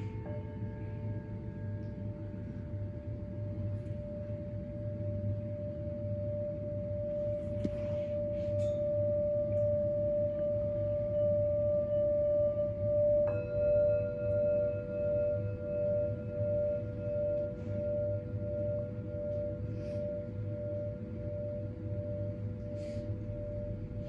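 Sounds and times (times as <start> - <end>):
low hum: 0.0 - 24.0
sustained bell-like ringing tone: 0.0 - 24.0.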